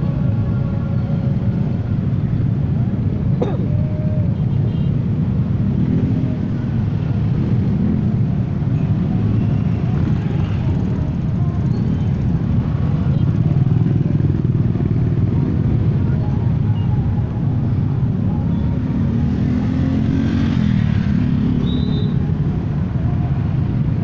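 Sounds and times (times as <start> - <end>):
motorcycle and scooter traffic: 0.0 - 24.0.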